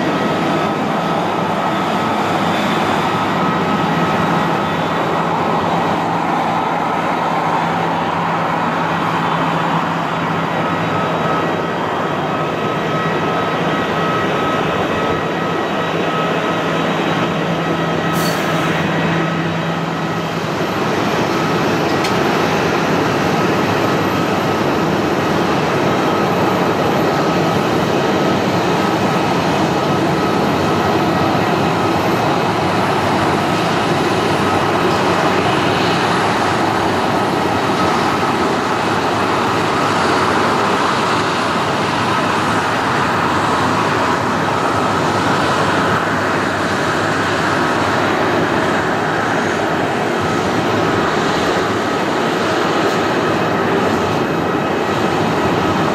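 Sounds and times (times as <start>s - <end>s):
jet engine whine: 0.0s - 55.9s.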